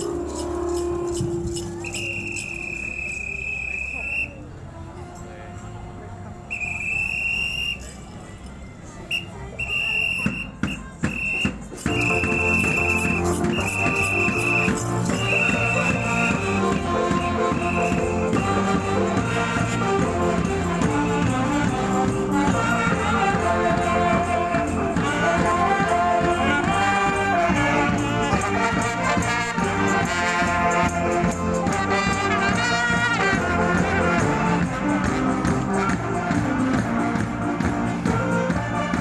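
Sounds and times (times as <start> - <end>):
band playing a tune: 0.0 - 4.1, 9.6 - 39.0.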